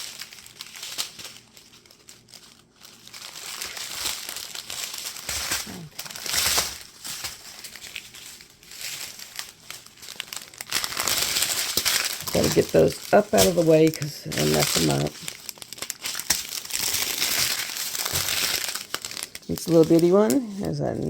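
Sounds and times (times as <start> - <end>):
plastic packaging crinkling: 0.0 - 21.0.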